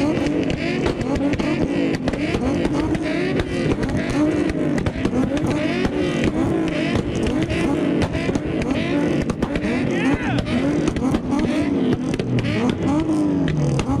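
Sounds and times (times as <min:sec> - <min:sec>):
car engines revving hard: 0:00.0 - 0:14.0
sharp exhaust pops: 0:00.0 - 0:14.0.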